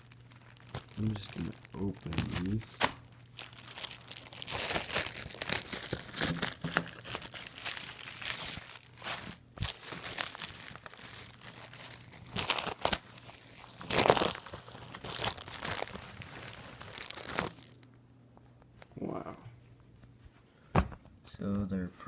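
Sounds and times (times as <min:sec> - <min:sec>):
packaging crinkling and tearing: 0:00.0 - 0:17.9.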